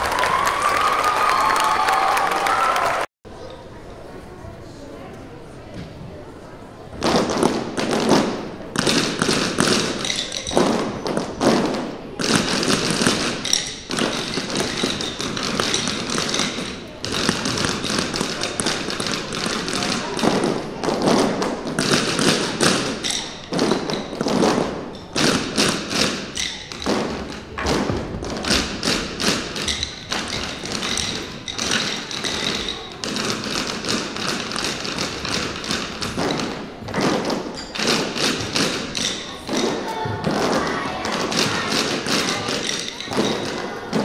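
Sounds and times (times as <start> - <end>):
sticks tapping on wooden floor: 7.0 - 44.0.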